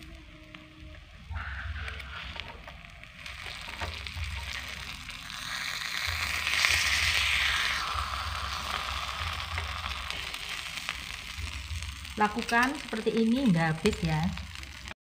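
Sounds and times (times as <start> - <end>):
batter sizzling in hot pan: 0.0 - 15.0.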